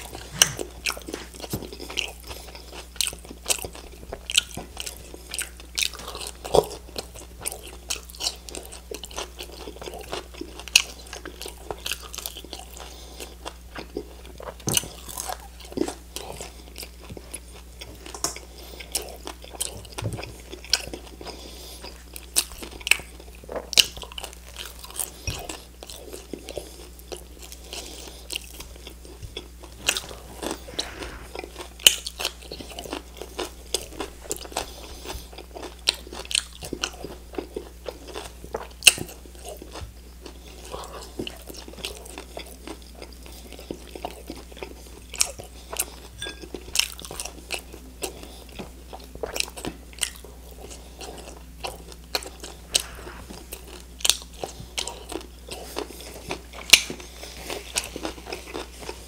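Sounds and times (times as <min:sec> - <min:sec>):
low steady hum: 0:00.0 - 0:11.9, 0:12.8 - 0:59.0
crunchy chewing: 0:00.0 - 0:59.0.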